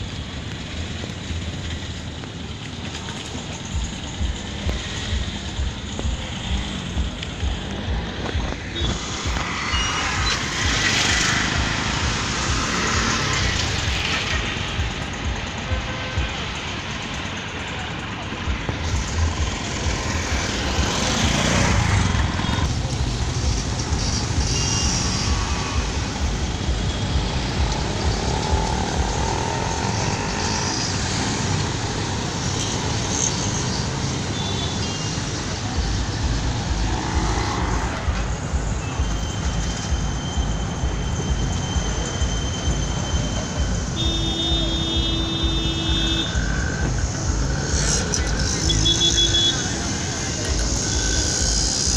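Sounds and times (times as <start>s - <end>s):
street traffic rumble: 0.0s - 51.9s.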